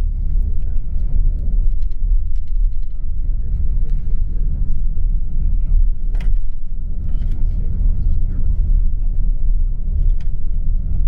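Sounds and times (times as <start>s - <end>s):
bus engine and tyres rumbling: 0.0s - 11.0s.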